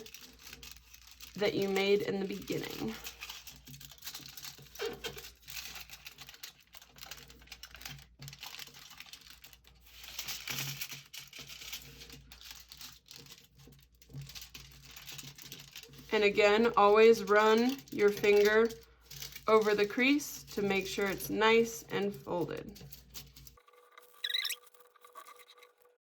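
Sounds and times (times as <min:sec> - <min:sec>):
aluminum foil crinkling: 0:00.0 - 0:25.9.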